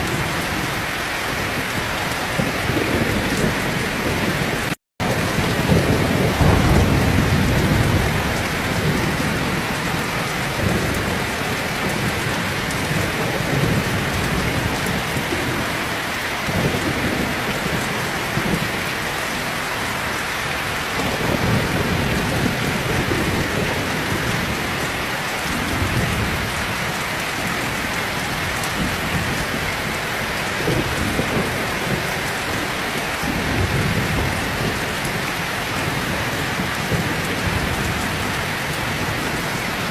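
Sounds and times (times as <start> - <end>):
heavy rain pouring: 0.0 - 39.9
low thunder rumbles: 0.0 - 39.9.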